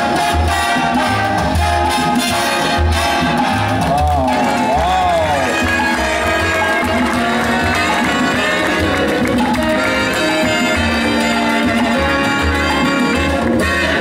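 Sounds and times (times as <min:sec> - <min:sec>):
instrumental music: 0:00.0 - 0:14.0
pulsing bass line: 0:00.0 - 0:14.0.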